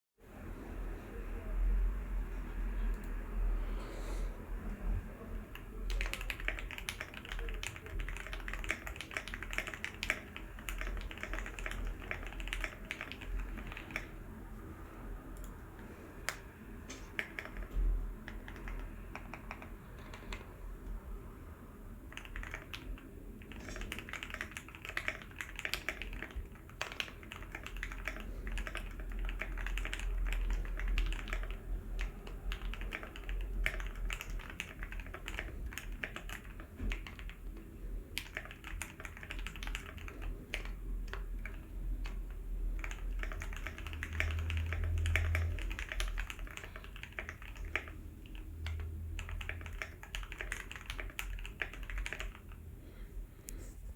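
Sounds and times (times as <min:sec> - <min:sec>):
mechanical keyboard typing: 0:05.3 - 0:14.3, 0:15.3 - 0:21.0, 0:21.9 - 0:52.6.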